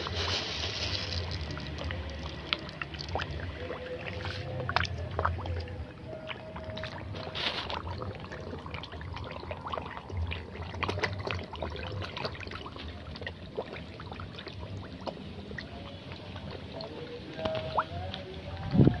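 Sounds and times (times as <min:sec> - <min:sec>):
wash of water: 0:00.0 - 0:17.0
fish splashing at water surface: 0:00.0 - 0:19.0.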